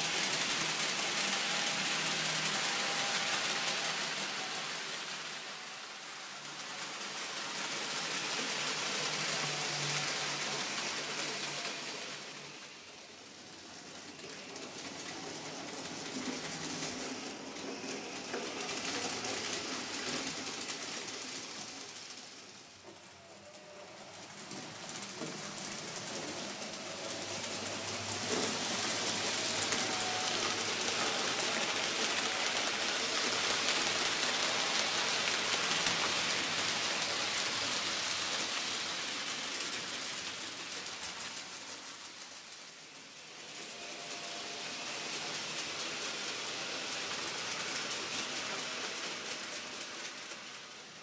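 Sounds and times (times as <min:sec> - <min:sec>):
model train wheels rolling on rails: 0:00.0 - 0:51.0.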